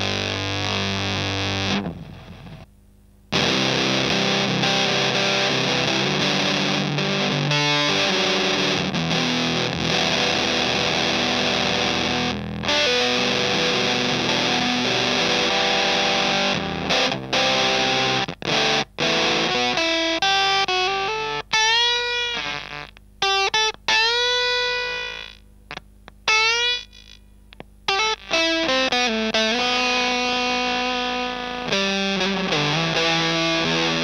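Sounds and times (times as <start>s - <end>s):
fuzzy electric guitar: 0.0s - 34.0s.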